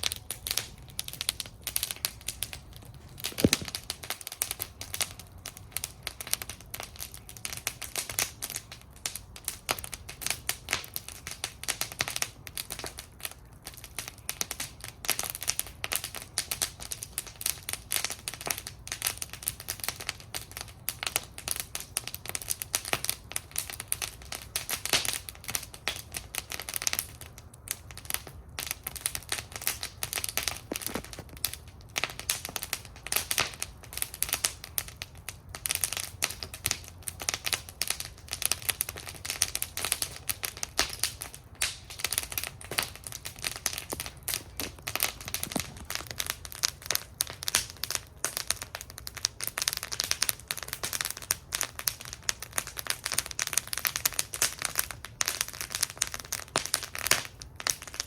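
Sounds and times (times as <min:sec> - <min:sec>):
low rumble of flame: 0:00.0 - 0:58.0
wood fire crackling and popping: 0:00.0 - 0:58.0.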